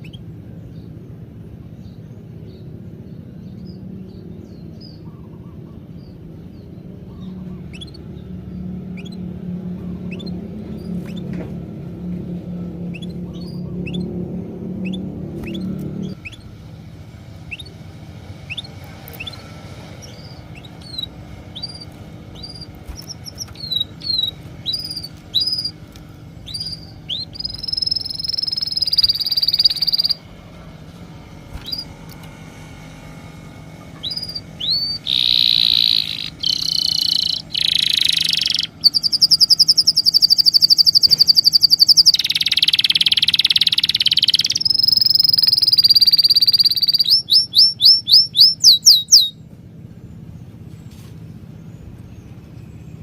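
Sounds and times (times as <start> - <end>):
birds chirping and singing: 0.0 - 53.0.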